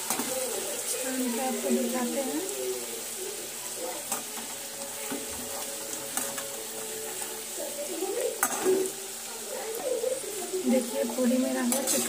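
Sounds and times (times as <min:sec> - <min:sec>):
oil sizzling while deep-frying: 0:00.0 - 0:12.0.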